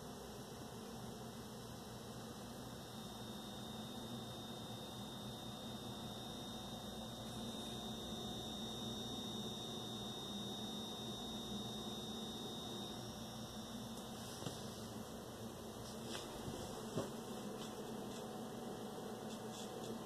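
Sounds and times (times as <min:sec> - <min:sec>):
electrical hum: 0:00.0 - 0:20.0
thin high whine: 0:00.0 - 0:20.0.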